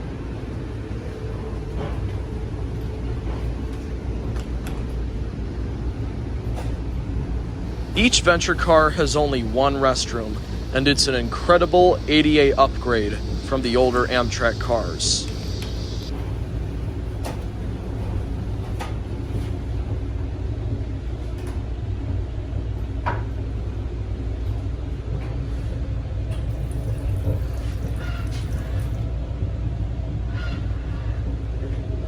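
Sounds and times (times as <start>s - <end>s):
train car rumble: 0.0s - 32.0s.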